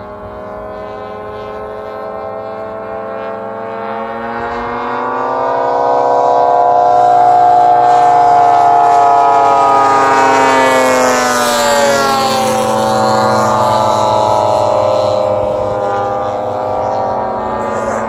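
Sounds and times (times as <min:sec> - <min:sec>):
model airplane engines: 0:00.0 - 0:18.0.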